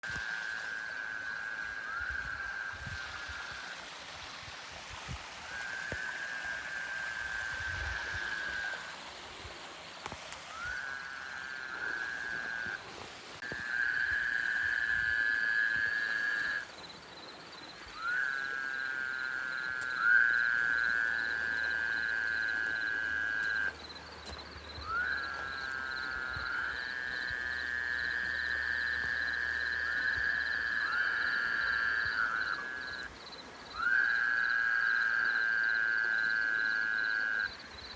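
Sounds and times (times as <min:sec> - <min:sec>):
frogs trilling in chorus: 0:00.1 - 0:04.2, 0:05.4 - 0:09.2, 0:10.0 - 0:12.8, 0:13.4 - 0:37.9.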